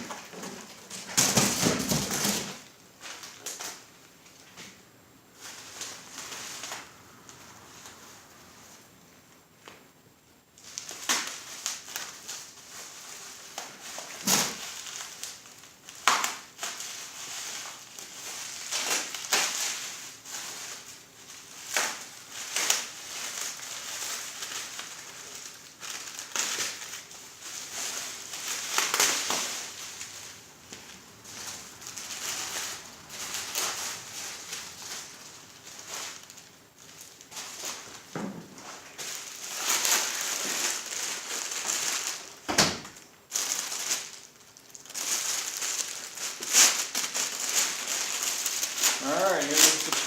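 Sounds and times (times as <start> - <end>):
packaging tearing and crumpling: 0.0 - 4.5, 10.6 - 50.0.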